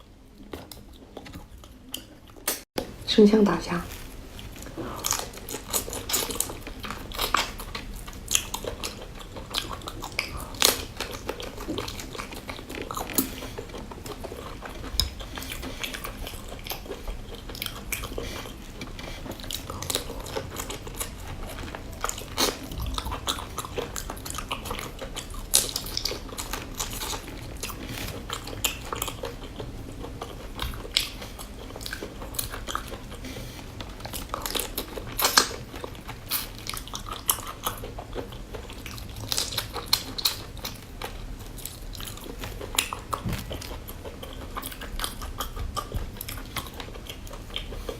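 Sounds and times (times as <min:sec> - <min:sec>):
person chewing crunchy food: 0:00.0 - 0:02.7, 0:03.9 - 0:47.9.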